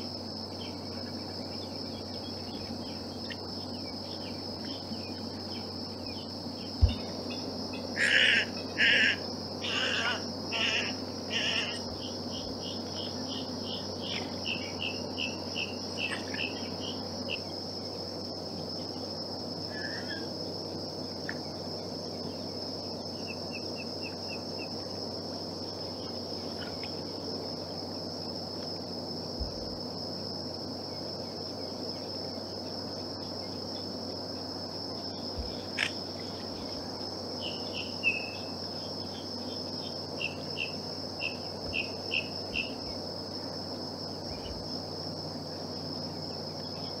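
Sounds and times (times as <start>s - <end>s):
insect chorus drone: 0.0s - 47.0s.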